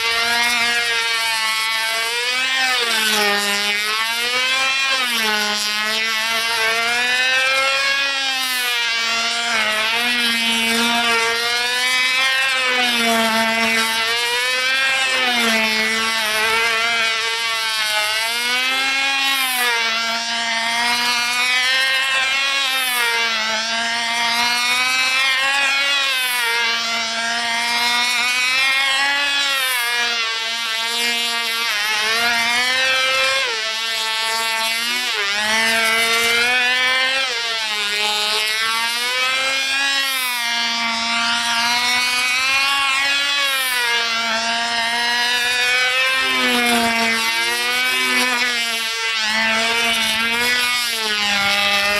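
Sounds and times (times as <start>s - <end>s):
model airplane engine buzzing: 0.0s - 51.9s.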